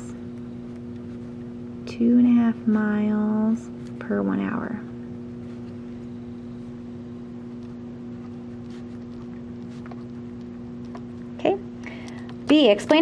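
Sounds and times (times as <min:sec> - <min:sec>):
steady hum of held tones: 0:00.0 - 0:13.0.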